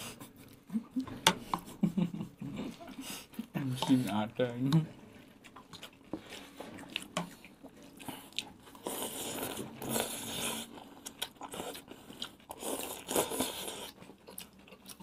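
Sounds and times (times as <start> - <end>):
people chewing burgers: 0.0 - 15.0.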